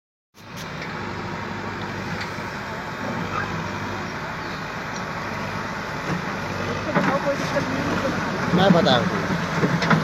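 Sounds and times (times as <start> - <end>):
diesel engine running: 0.4 - 10.0.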